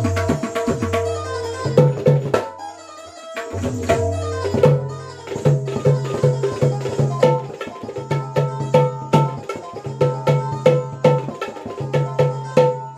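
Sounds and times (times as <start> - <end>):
barrel drum playing: 0.0 - 2.6, 3.4 - 12.9.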